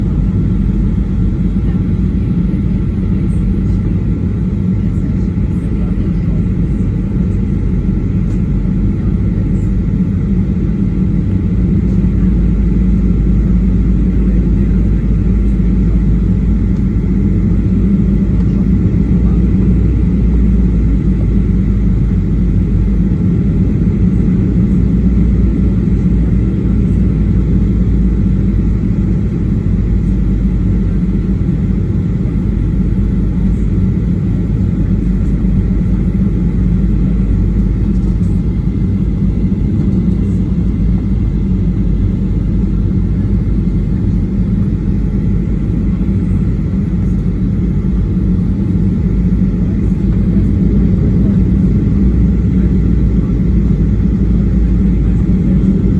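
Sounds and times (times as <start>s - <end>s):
airplane cabin rumble: 0.0s - 55.9s
faint steady whine: 0.0s - 55.9s.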